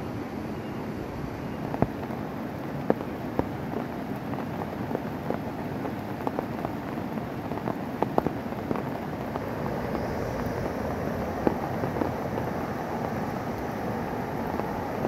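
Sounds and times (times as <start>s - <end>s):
rain falling: 1.0s - 15.0s
large raindrops tapping: 1.6s - 15.0s.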